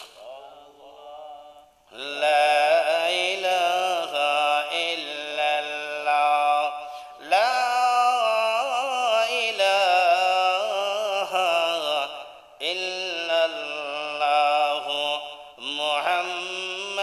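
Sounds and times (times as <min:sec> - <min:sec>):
man chanting devotional verse: 0:00.0 - 0:17.0.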